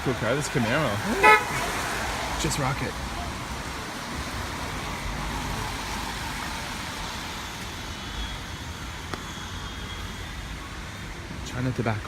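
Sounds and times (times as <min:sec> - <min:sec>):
passing cars rumble and hiss: 0:00.0 - 0:12.0.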